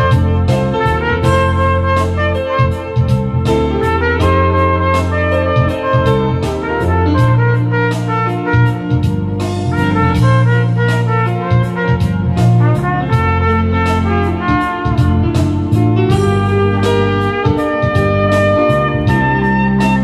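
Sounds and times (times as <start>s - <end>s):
backing track with bass: 0.0s - 20.0s
steady drum beat: 0.0s - 20.0s
trumpet melody: 0.0s - 20.0s.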